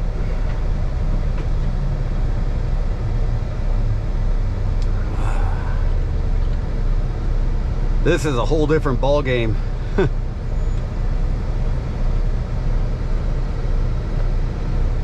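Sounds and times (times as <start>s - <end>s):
diesel truck engine droning: 0.0s - 15.0s
road noise: 0.0s - 15.0s.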